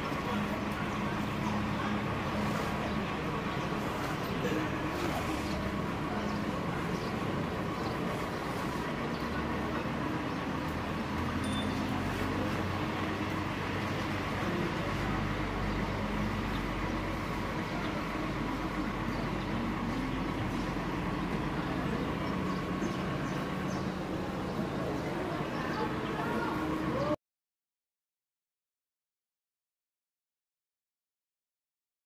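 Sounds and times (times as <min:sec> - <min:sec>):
outdoor traffic noise: 0:00.0 - 0:27.2
vehicle engine idling: 0:00.0 - 0:27.2.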